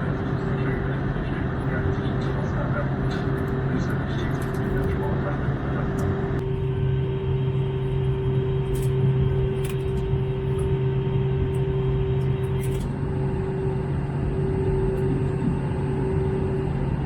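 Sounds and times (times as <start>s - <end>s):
aircraft cabin engine rush: 0.0s - 17.0s
constant low hum: 0.0s - 17.0s
faint higher hum: 0.0s - 17.0s.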